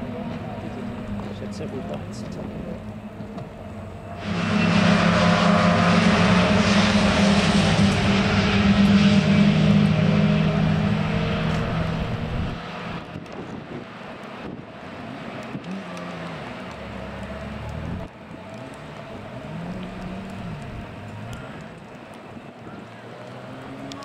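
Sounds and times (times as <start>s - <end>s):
racing car engine at high revs: 0.0s - 24.0s.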